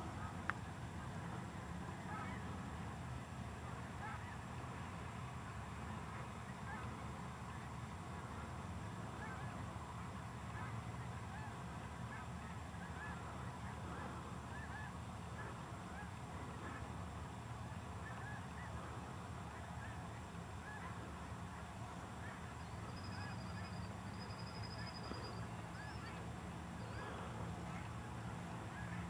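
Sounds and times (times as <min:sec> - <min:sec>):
geese honking: 0:01.9 - 0:02.5, 0:03.6 - 0:08.5, 0:09.1 - 0:29.0.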